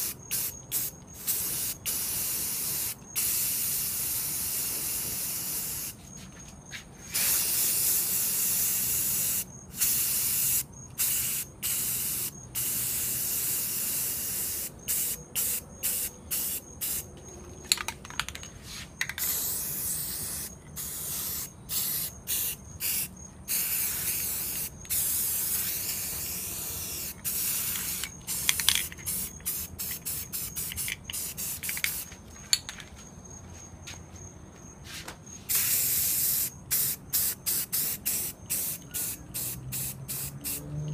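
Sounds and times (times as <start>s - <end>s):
spray paint can hissing: 0.0s - 6.0s, 7.1s - 17.1s, 19.0s - 32.1s, 35.5s - 40.7s.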